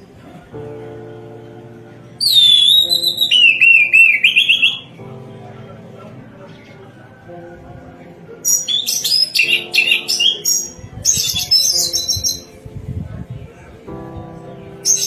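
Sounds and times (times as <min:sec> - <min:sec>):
soft background music: 0:00.0 - 0:15.0
thrush singing: 0:00.0 - 0:15.0.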